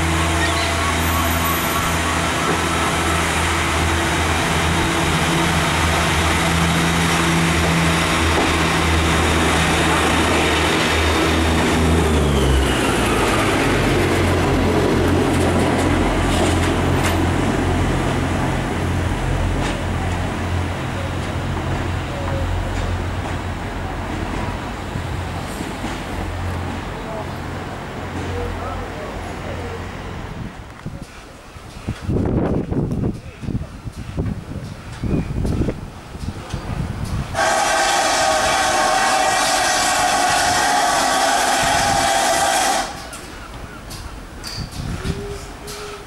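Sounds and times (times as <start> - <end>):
diesel train engine running: 0.0 - 46.0.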